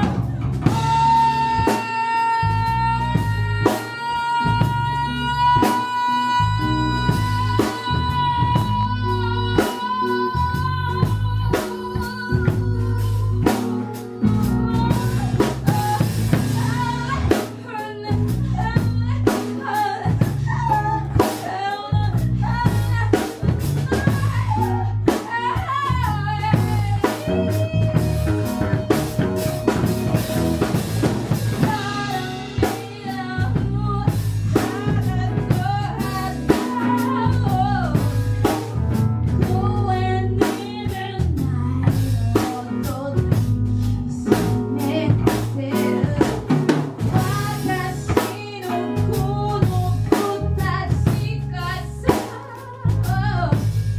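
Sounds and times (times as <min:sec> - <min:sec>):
person singing: 0:00.0 - 0:53.8
bass line: 0:00.0 - 0:53.9
drum kit: 0:00.0 - 0:53.9.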